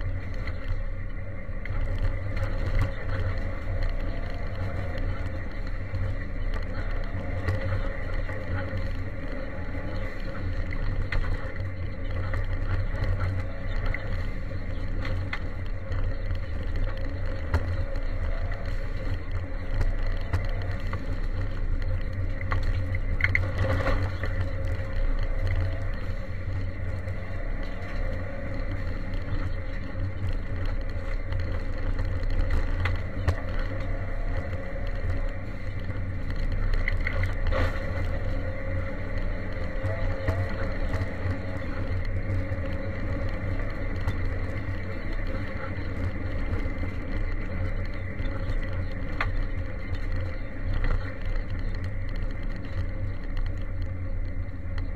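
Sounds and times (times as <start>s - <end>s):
rally car engine running hard: 0.0s - 54.9s
tyre and gravel noise: 0.0s - 54.9s.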